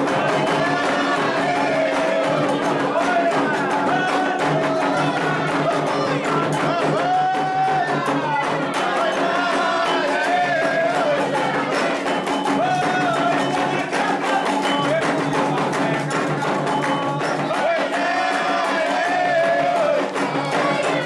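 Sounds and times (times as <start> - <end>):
hand drums and percussion: 0.0 - 21.0.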